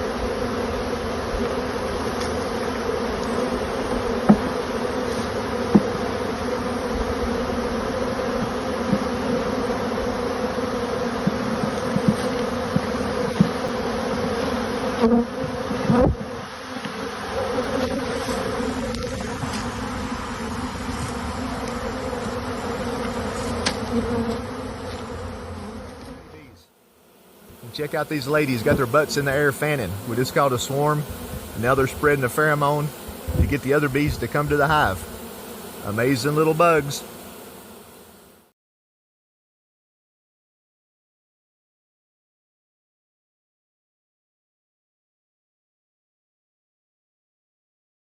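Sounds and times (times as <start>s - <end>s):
bee swarm buzzing: 0.0s - 38.6s.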